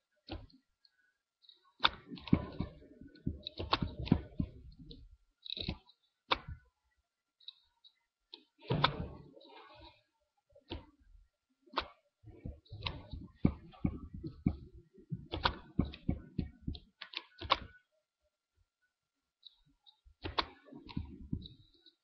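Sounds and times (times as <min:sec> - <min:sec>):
irregular clicks and light knocks: 0:00.2 - 0:06.7, 0:07.4 - 0:09.9, 0:10.6 - 0:11.0, 0:11.7 - 0:17.8, 0:19.4 - 0:22.0.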